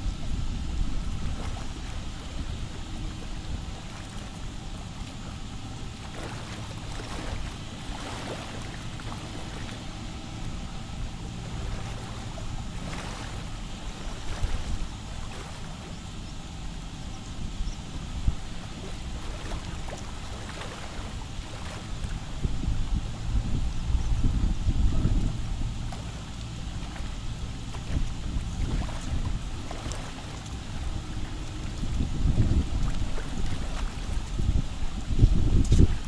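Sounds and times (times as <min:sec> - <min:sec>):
water lapping against rock: 0:00.0 - 0:17.1, 0:17.9 - 0:36.0
wind rumbling on microphone: 0:00.0 - 0:36.0.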